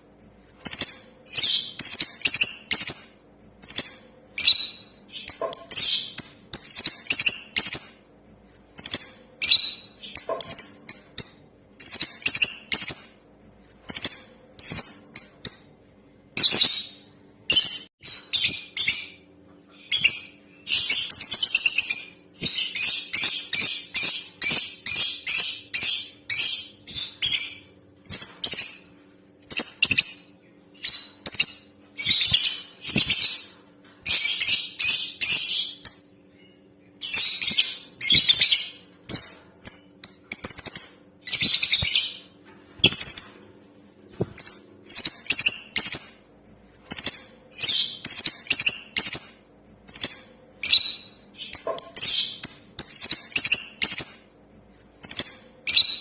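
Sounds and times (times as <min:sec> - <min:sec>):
lovebird shrill chirps: 0:00.6 - 0:08.2, 0:08.8 - 0:13.3, 0:16.4 - 0:33.5, 0:34.1 - 0:43.5, 0:44.4 - 0:54.4, 0:55.0 - 0:56.0.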